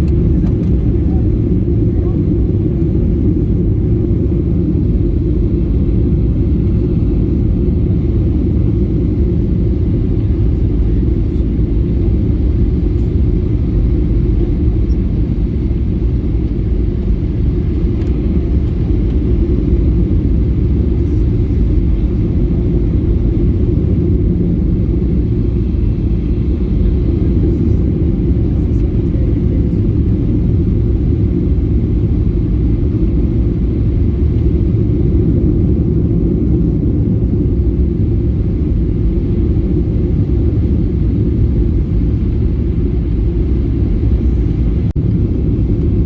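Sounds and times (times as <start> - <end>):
airliner engine rumble in cabin: 0.0 - 46.0.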